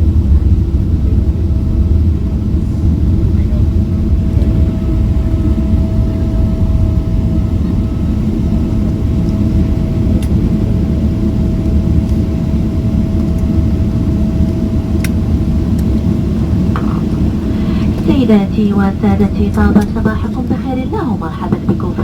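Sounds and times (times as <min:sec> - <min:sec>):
aircraft cabin rumble: 0:00.0 - 0:22.0
jet engine whine: 0:00.0 - 0:22.0.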